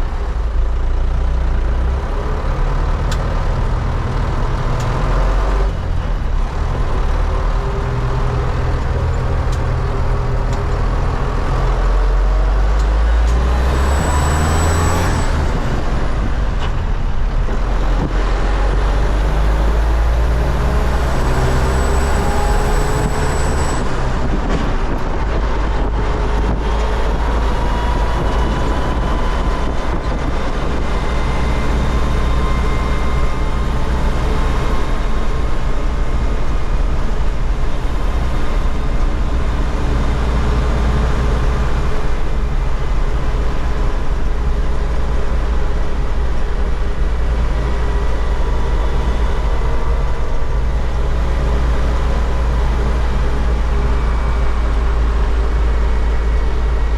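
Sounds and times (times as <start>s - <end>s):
tractor diesel engine accelerating: 0.0s - 56.9s.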